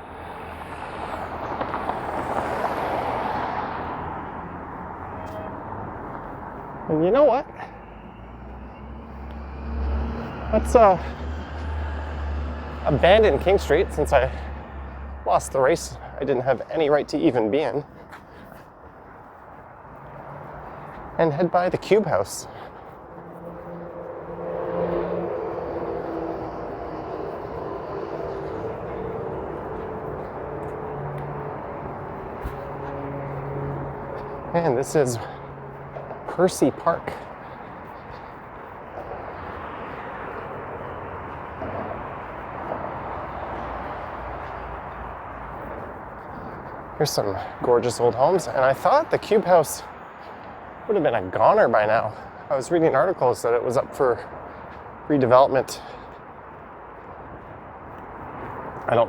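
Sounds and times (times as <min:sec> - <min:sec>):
street traffic rushing: 0:00.0 - 0:59.0
vehicle passing by: 0:00.0 - 0:59.0.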